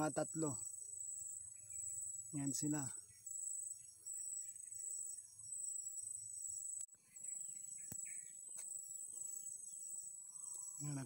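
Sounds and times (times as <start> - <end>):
high-pitched insect trill: 0.0 - 11.0
pulsing cricket chirp: 0.0 - 11.0.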